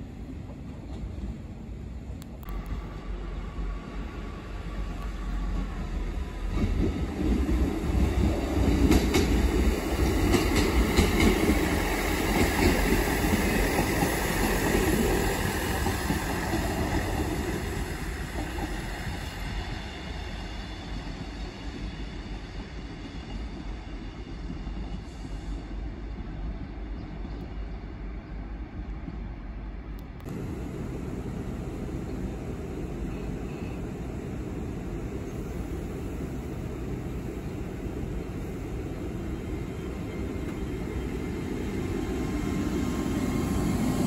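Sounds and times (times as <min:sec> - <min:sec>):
diesel train rumble: 0:00.0 - 0:44.0.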